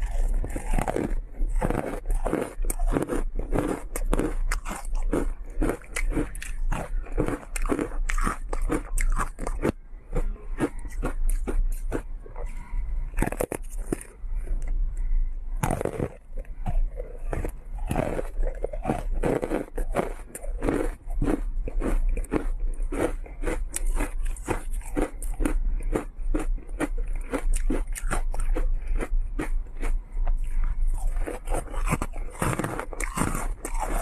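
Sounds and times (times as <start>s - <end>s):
frozen ice crunching while chewed: 0.0s - 34.0s.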